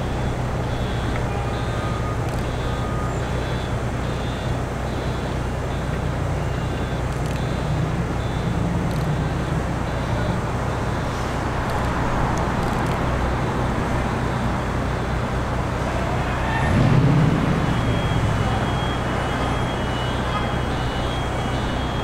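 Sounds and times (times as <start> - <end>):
traffic and machinery rumble: 0.0 - 22.0.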